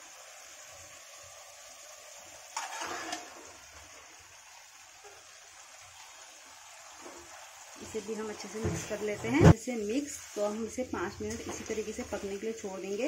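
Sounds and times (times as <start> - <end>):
burst of sizzling: 0.0 - 13.0
masala hissing in a hot pan: 0.0 - 13.0.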